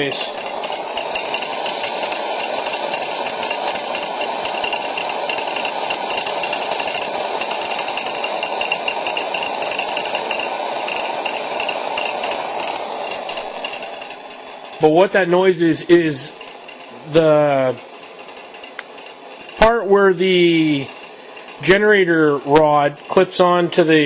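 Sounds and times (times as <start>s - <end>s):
fast steady rattle: 0.0s - 24.0s
pressure lantern hissing: 0.0s - 24.0s.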